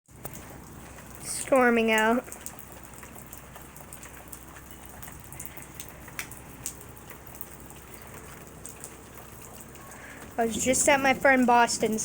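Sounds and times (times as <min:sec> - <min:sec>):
steady rainfall: 0:00.1 - 0:12.0.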